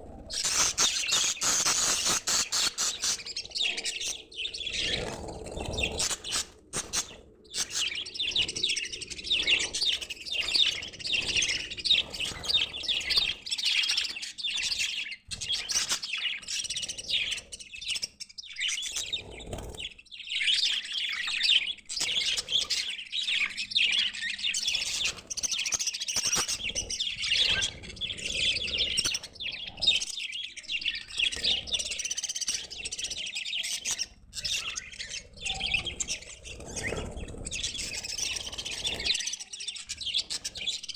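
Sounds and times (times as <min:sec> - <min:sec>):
budgerigars chattering and warbling: 0:00.3 - 0:40.9.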